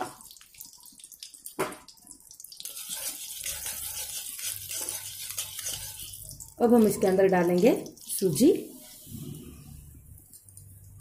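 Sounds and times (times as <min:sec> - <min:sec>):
ghee sizzling in a pan: 0:00.0 - 0:09.1.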